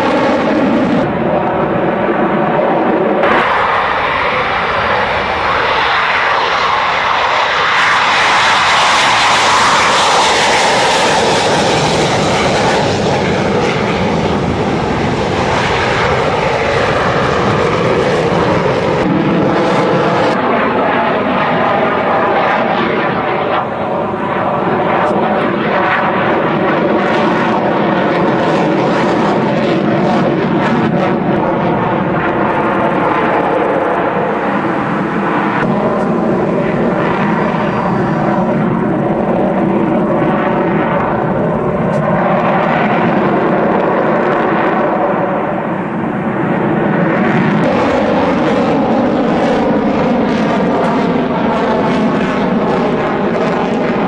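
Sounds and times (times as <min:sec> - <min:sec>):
jet engine rushing noise: 0:00.0 - 0:54.0.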